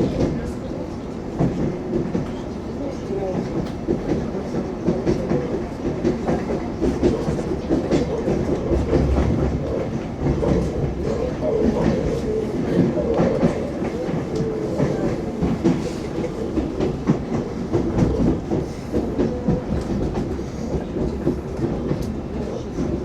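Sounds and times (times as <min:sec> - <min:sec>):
train running rumble: 0:00.0 - 0:23.0
train wheels clicking on rail joints: 0:00.0 - 0:23.0.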